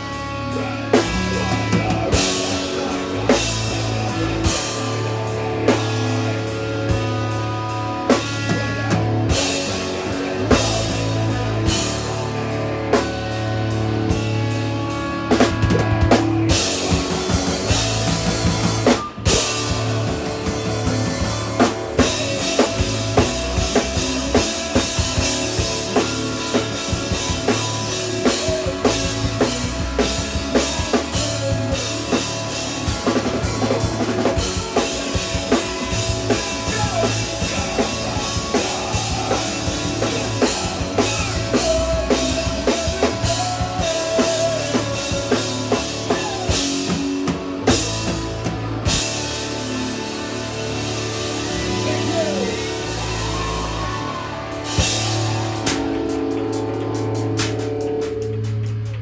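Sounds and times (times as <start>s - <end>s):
drum kit: 0.0s - 59.0s
guitar and bass playing: 0.0s - 59.0s.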